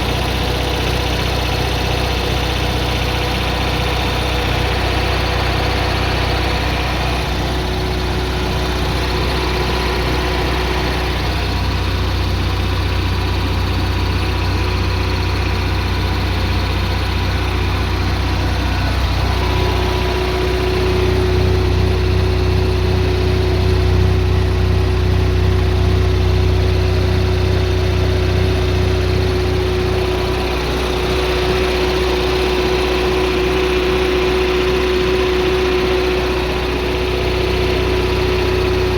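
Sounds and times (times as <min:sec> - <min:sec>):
generator humming: 0:00.0 - 0:38.9.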